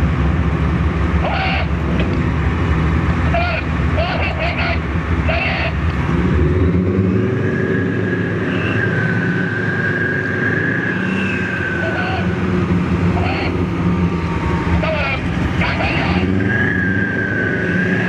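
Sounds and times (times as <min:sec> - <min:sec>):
tank engines rumbling: 0:00.0 - 0:18.0.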